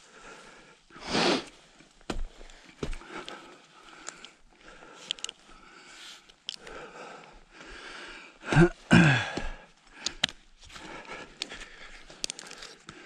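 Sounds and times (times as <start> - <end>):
person breathing: 0.0 - 1.5, 2.1 - 13.0.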